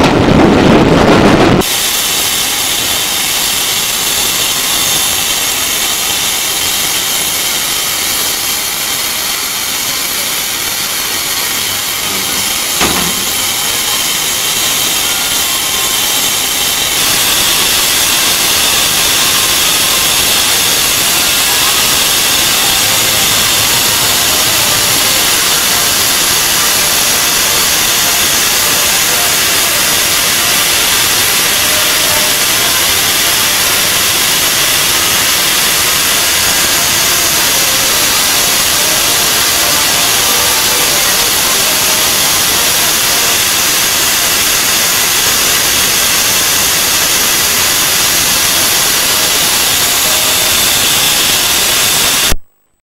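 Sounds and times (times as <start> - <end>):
steam locomotive hissing: 0.0 - 52.4.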